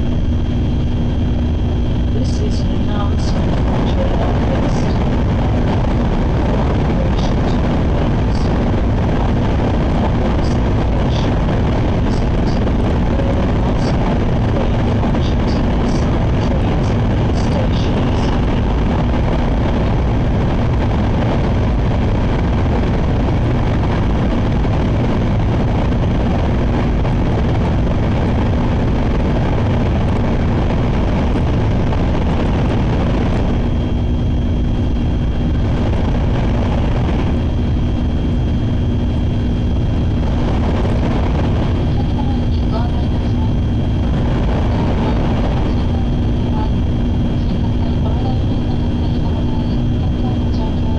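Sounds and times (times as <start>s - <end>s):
train running at speed: 0.0s - 50.9s.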